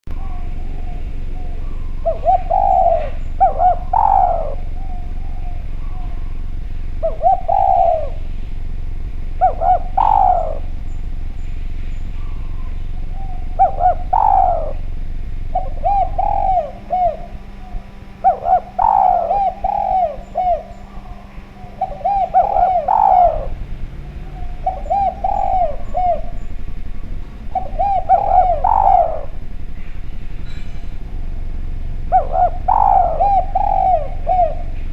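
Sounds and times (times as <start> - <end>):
steady low hum: 0.0 - 34.9
dove cooing: 0.1 - 34.9.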